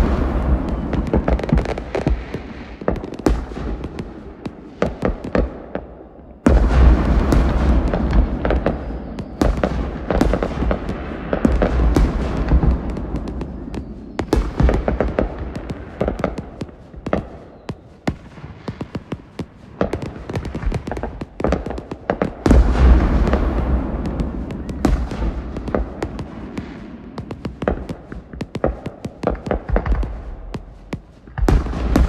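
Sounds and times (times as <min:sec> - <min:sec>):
fireworks booming: 0:00.0 - 0:32.0
fireworks crackling and popping: 0:00.0 - 0:32.0.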